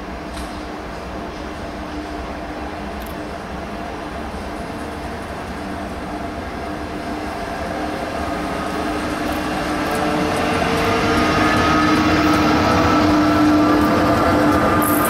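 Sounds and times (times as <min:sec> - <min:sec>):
electric locomotive hum: 0:00.0 - 0:15.0.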